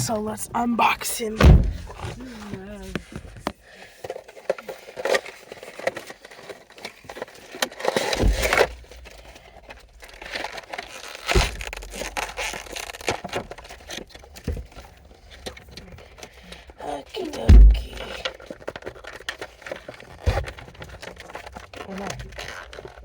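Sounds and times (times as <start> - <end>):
cardboard and plastic packaging rustling: 1.2 - 23.0.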